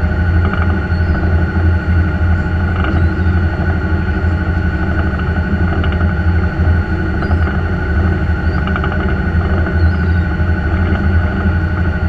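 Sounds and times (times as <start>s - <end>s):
boat engines droning: 0.0s - 12.0s.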